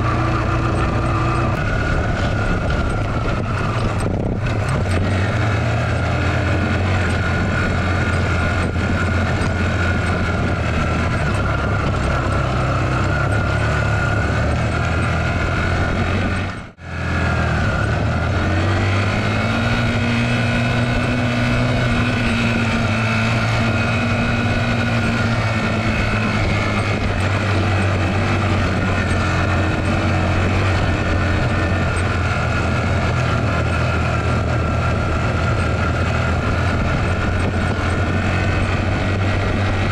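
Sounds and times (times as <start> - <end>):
motorcycle engine labouring: 0.0 - 39.9.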